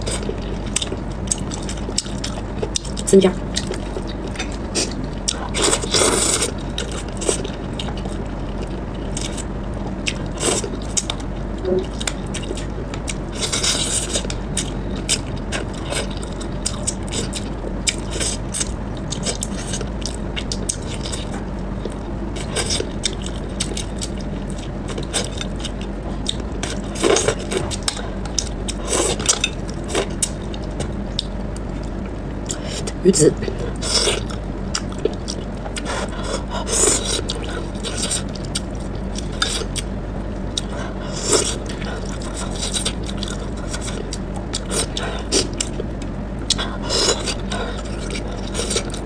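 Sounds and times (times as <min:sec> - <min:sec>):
wet chewing: 0:00.0 - 0:11.2, 0:11.8 - 0:33.0, 0:33.6 - 0:39.9, 0:40.5 - 0:49.0
steady low hum: 0:00.0 - 0:49.0.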